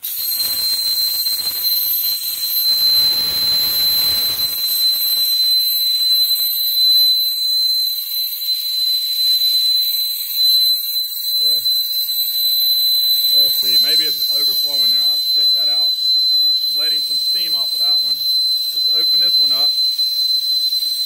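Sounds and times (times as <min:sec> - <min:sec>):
steam whistle: 0:00.0 - 0:21.0.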